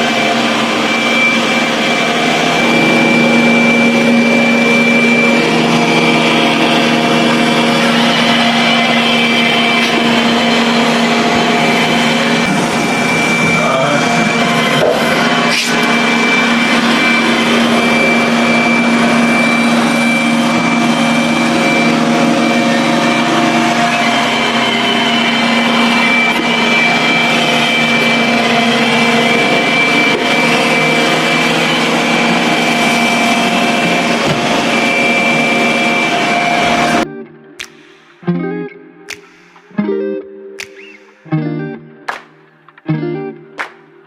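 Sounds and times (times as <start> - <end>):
robot vacuum whirring: 0.0 - 37.0.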